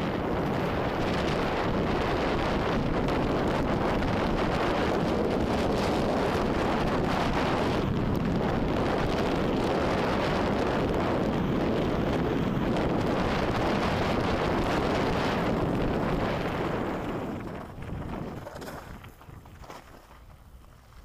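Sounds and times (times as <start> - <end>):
bike tyres rolling on gravel: 0.0 - 21.0
wind rushing over microphone: 0.0 - 21.0.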